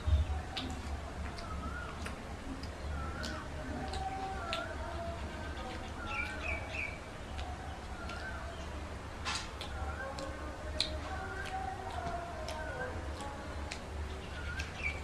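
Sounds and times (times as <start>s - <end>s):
birds chirping: 0.0s - 15.0s
low steady hum: 0.0s - 15.0s
people chewing and lip-smacking: 0.0s - 15.0s.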